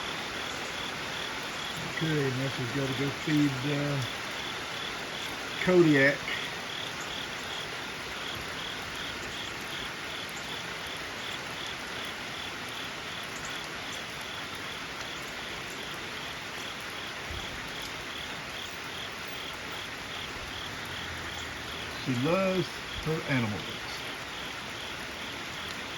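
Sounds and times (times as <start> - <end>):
insects chirping: 0.0 - 25.9
steady rain falling: 0.0 - 25.9.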